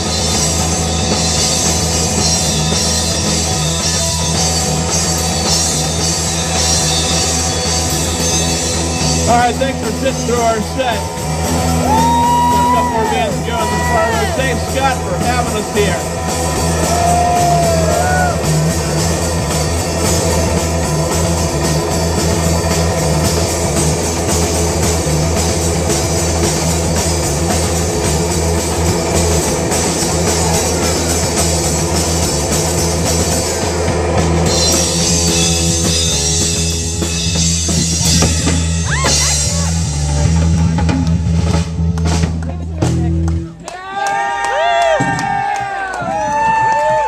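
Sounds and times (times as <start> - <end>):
live rock band playing: 0.0 - 43.8.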